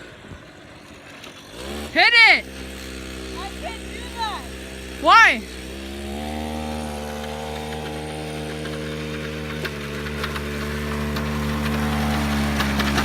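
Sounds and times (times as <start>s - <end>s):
small motorbike engine idling: 0.0s - 13.0s.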